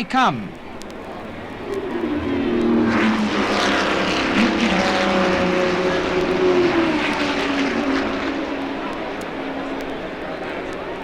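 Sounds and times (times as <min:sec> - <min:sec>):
racing cars passing at speed: 0:00.8 - 0:11.0.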